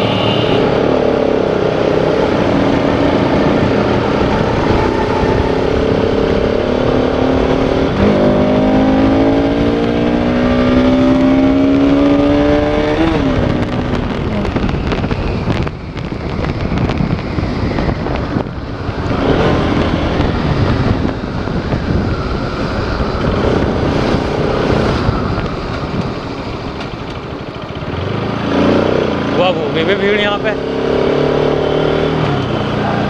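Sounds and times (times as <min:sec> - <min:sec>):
motorcycle engine: 0:00.0 - 0:33.0
wind and road noise: 0:00.0 - 0:33.0.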